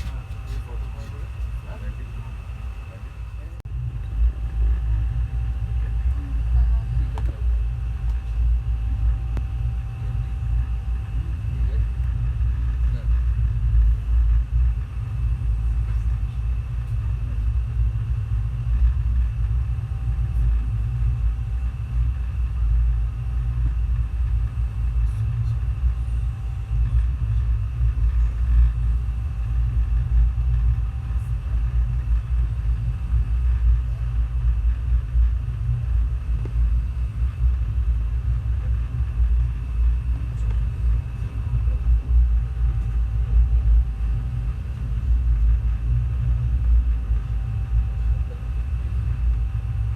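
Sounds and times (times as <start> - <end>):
passenger train rumbling: 0.0 - 49.9.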